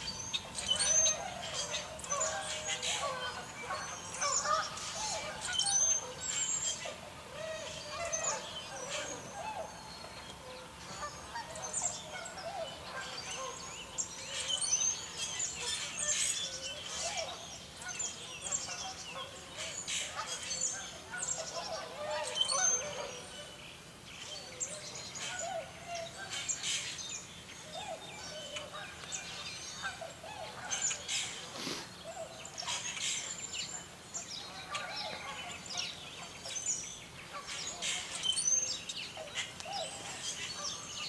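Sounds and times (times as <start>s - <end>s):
swans and geese calling: 0.0s - 23.5s, 27.6s - 41.0s.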